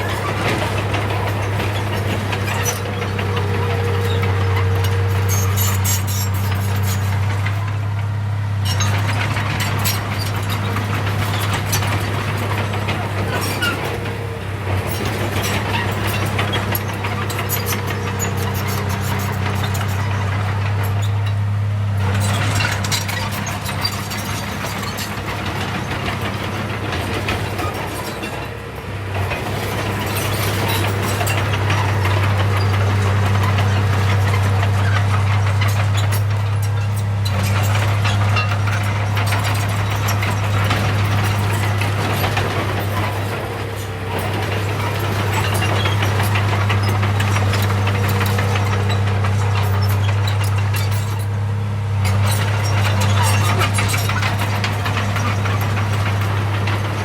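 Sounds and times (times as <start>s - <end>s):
rattling and crackling: 0.0s - 8.0s, 8.7s - 21.4s, 29.2s - 51.4s, 52.1s - 57.0s
heavy machine diesel engine running: 0.0s - 57.0s.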